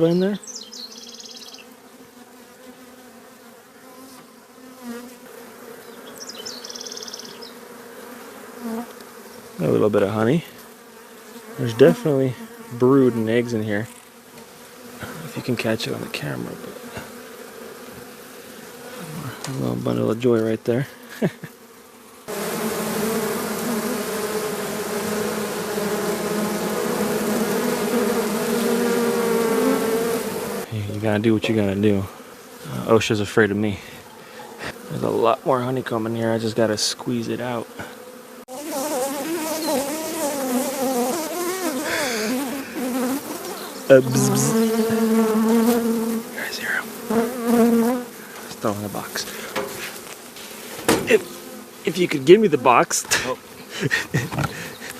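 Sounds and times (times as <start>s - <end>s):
bees buzzing: 0.0s - 54.9s.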